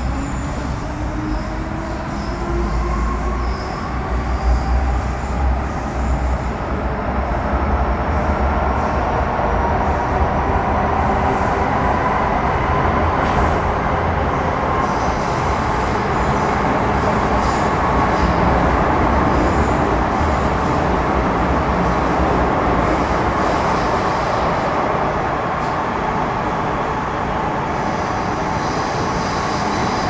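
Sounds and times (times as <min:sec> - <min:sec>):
train wheels rumbling on track: 0:00.0 - 0:30.0.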